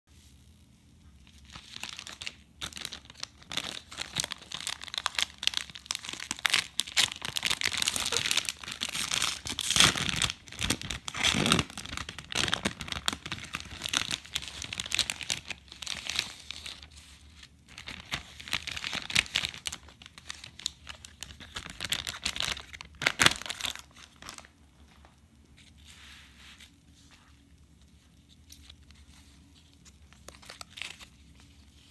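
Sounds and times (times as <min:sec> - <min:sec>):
card pack packaging crinkling: 0:01.2 - 0:31.9
sharp crackle of packaging: 0:01.3 - 0:25.2, 0:27.5 - 0:31.9.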